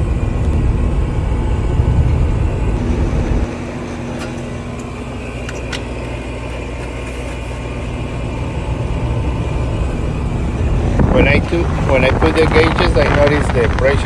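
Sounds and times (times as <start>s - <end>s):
compressor low hum: 0.0s - 14.0s.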